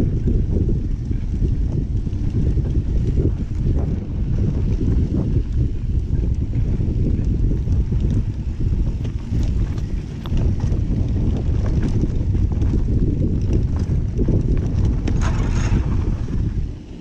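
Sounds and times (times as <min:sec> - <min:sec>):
bike rattling and knocking: 0:00.0 - 0:17.0
wind buffeting microphone: 0:00.0 - 0:17.0.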